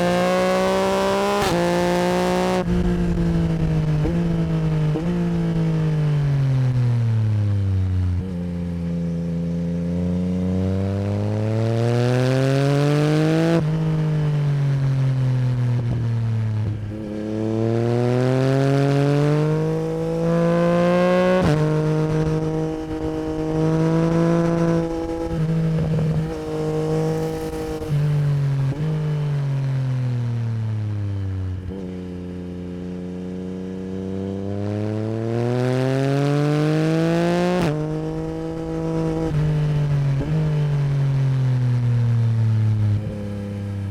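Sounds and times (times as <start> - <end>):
motorcycle engine revving through gears: 0.0 - 43.9.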